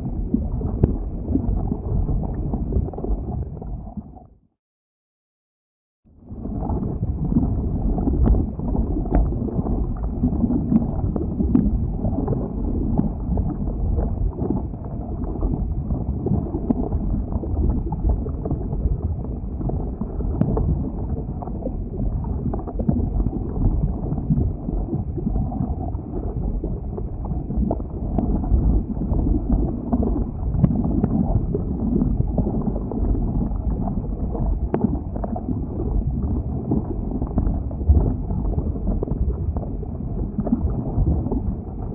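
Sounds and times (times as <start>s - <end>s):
low rumble of flowing lava: 0.0s - 4.4s, 6.1s - 41.9s.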